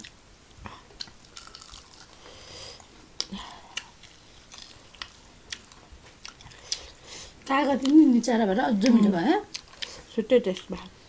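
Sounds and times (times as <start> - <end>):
person chewing close to microphone: 0.0 - 8.1, 8.8 - 10.9.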